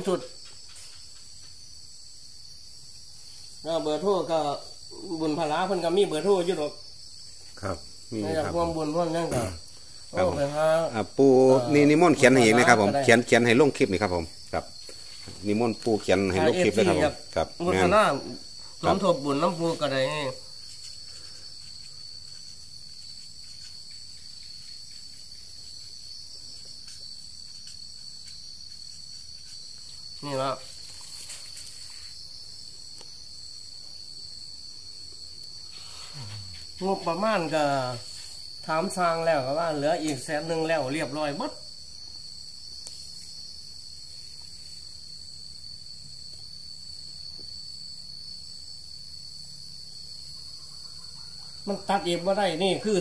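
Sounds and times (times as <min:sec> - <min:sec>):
crickets trilling: 0:00.0 - 0:53.0
insects chirping: 0:00.0 - 0:53.0.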